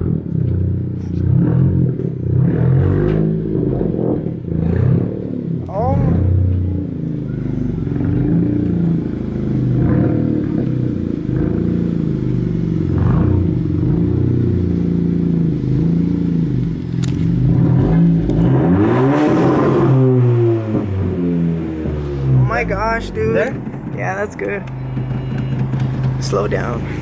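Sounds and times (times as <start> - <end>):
car engine revving: 0.0 - 27.0
car engine running: 0.0 - 27.0.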